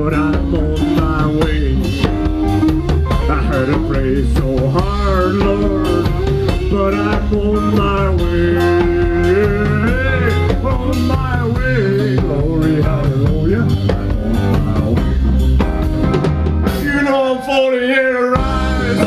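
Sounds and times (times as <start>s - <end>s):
bending lead guitar melody: 0.0s - 19.0s
live rock band playing: 0.0s - 19.0s.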